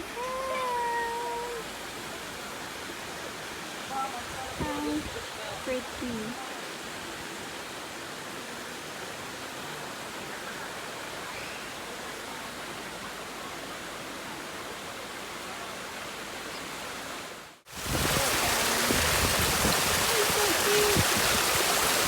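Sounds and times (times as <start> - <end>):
creek waterfall rushing: 0.0 - 22.0.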